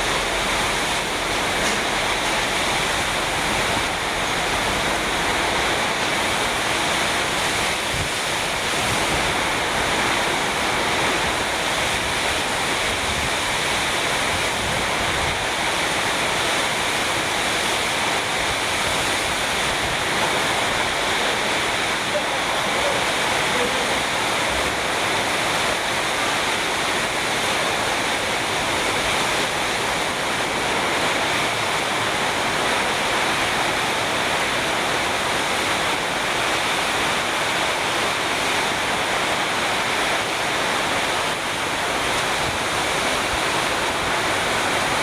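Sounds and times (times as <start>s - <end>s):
heavy rain pouring: 0.0s - 45.0s
strong wind: 0.0s - 45.0s.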